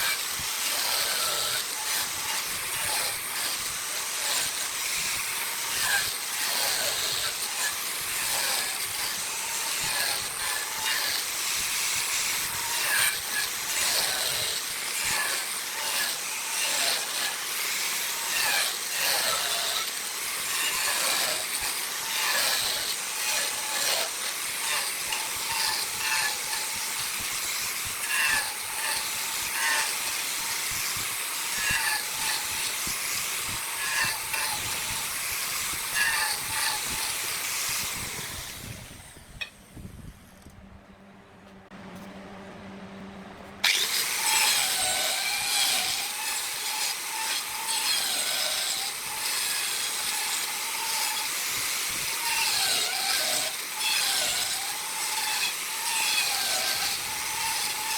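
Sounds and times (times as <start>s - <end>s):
wood lathe cutting hiss: 0.0s - 39.5s, 43.6s - 57.9s.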